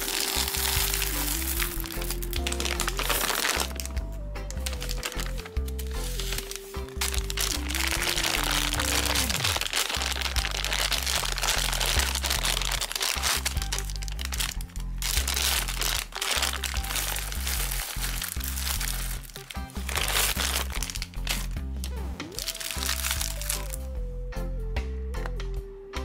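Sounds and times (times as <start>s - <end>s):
candies rattling into a bowl: 0.0s - 21.6s, 22.4s - 23.8s
plastic bag crinkling: 0.0s - 21.6s, 22.4s - 23.8s
background music: 0.0s - 26.0s.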